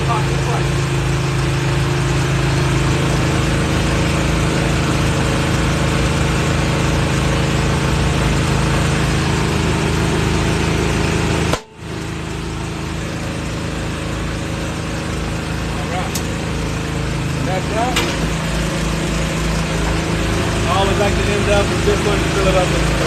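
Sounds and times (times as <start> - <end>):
air compressor running: 0.0 - 23.0.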